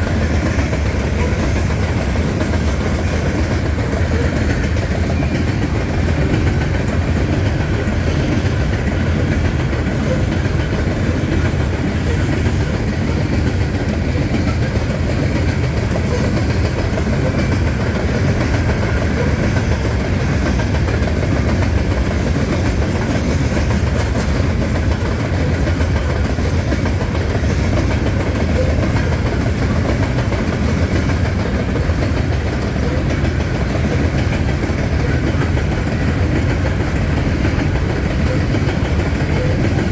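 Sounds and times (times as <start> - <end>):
freight train wheels rumbling on rail: 0.0 - 39.9.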